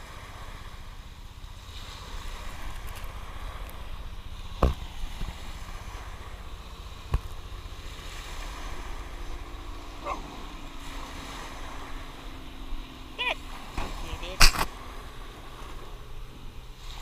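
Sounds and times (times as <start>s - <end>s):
surf washing at shoreline: 0.0s - 17.0s.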